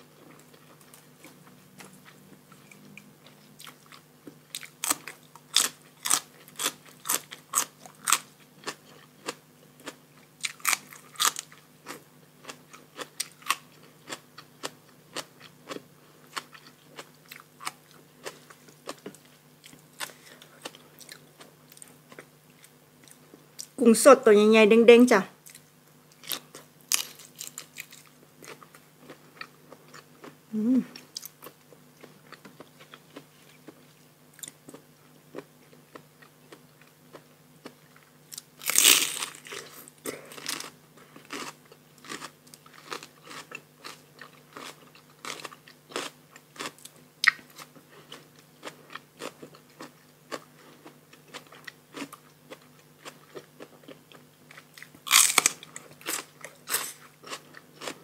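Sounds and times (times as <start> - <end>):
person chewing and crunching food: 0.0 - 23.8, 25.4 - 58.0.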